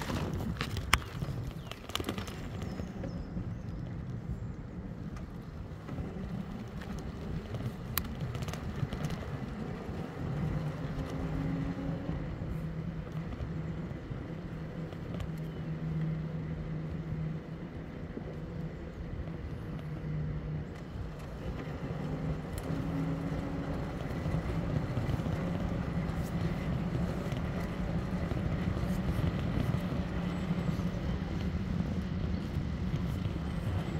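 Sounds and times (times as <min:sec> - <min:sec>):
e-bike riding rumble: 0:00.0 - 0:33.9
low motor hum: 0:00.0 - 0:33.9.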